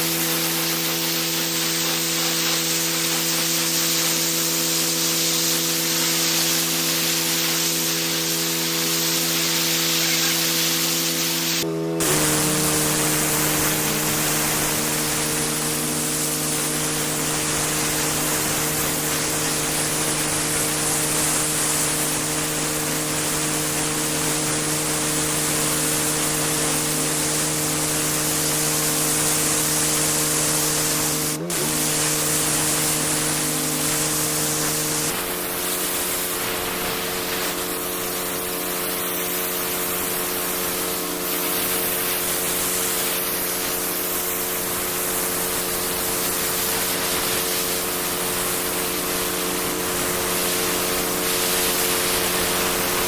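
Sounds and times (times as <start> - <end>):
pressure washer drone: 0.0 - 53.0
pressure washer spray hiss: 0.0 - 53.0.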